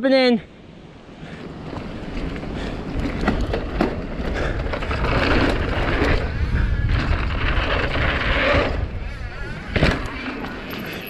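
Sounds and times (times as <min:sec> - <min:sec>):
bike tyres on dirt: 0:00.9 - 0:11.0
bike clacking and rattling: 0:01.4 - 0:11.0
wind rushing: 0:01.5 - 0:10.4.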